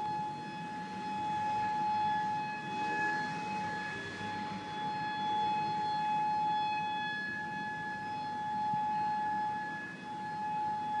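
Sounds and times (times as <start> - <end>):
warning siren wailing: 0.0 - 11.0.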